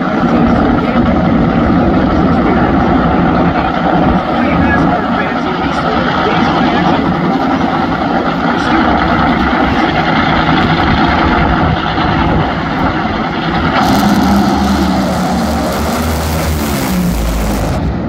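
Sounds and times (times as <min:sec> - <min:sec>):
race car engines roaring: 0:00.0 - 0:18.0.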